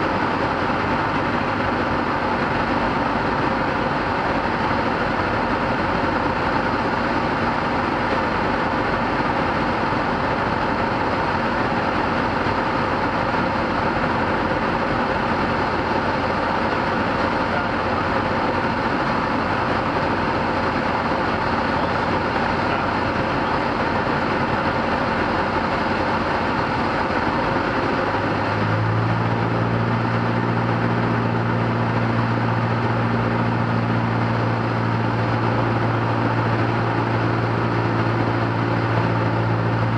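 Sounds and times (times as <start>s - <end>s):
deep steady hum: 0.0s - 39.9s
propeller airplane engine drone: 0.0s - 39.9s.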